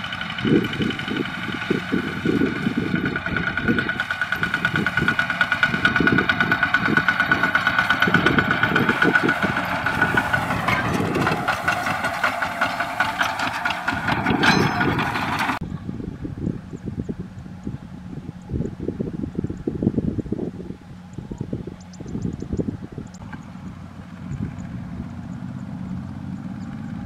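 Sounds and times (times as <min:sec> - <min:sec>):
diesel engine chugging: 0:00.0 - 0:17.6, 0:22.7 - 0:27.0.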